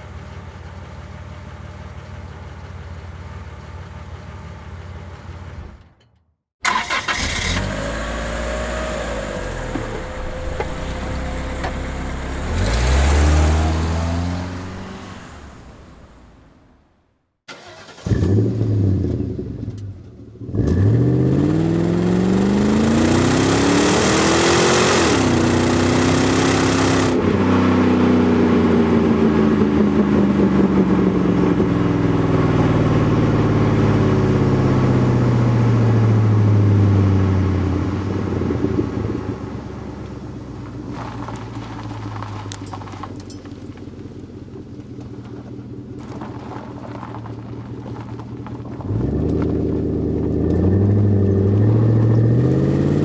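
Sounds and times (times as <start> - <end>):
car engine starting and revving: 6.6 - 16.9, 17.5 - 53.0.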